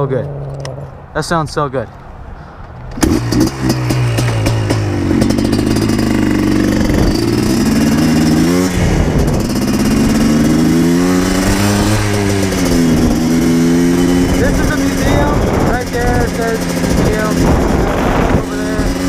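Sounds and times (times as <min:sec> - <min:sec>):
quad bike engine revving: 0:02.9 - 0:19.0.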